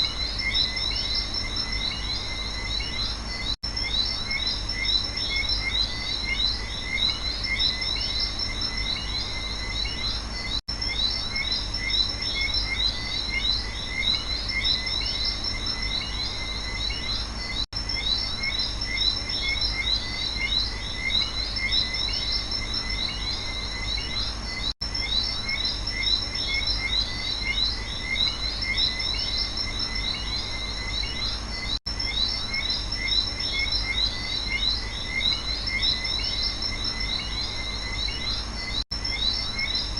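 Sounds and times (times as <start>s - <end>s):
frogs chirping: 0.0s - 39.9s
high insect drone: 0.0s - 39.9s.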